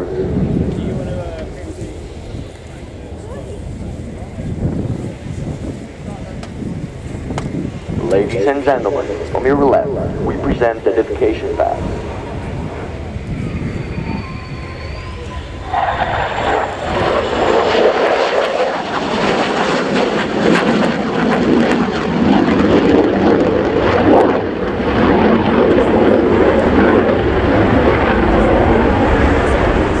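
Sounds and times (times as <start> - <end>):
jet engine roaring past: 0.0 - 30.0.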